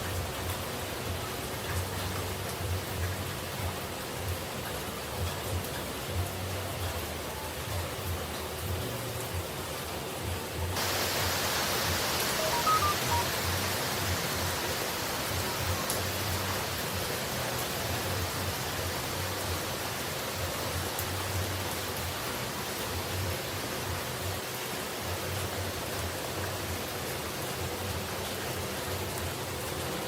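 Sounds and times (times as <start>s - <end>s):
falling water rushing: 0.0s - 30.0s.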